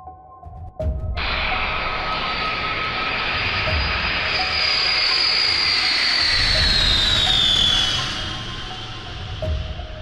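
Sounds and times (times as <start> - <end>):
jet aircraft passing overhead: 1.2 - 10.0
turbine whine: 1.2 - 10.0.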